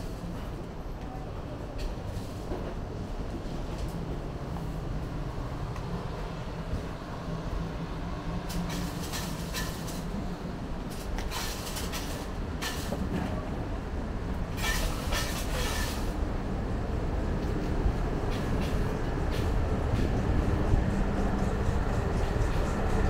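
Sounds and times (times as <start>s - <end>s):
low city rumble: 0.0s - 23.0s.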